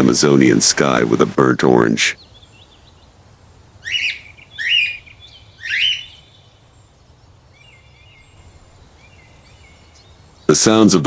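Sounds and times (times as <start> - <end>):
bird rising slurred calls: 0.0 - 11.0
high bird twittering: 1.8 - 11.0.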